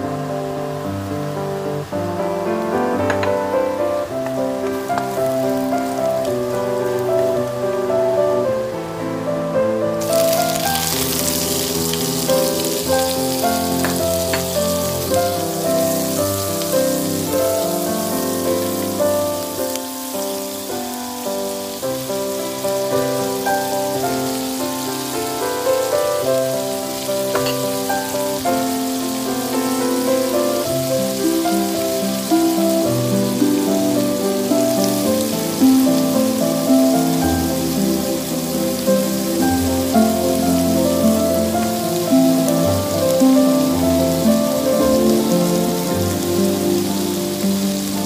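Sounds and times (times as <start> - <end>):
food sizzling in hot oil: 1.4 - 8.8, 10.0 - 48.0
instrumental background music: 2.6 - 48.0.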